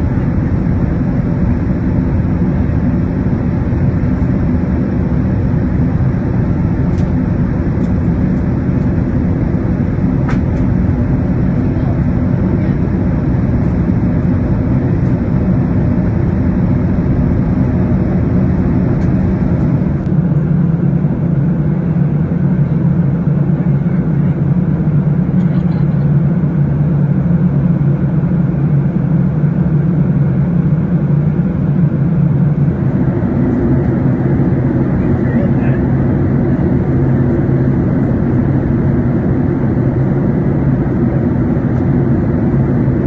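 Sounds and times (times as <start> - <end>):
aircraft cabin engine rumble: 0.0 - 43.0.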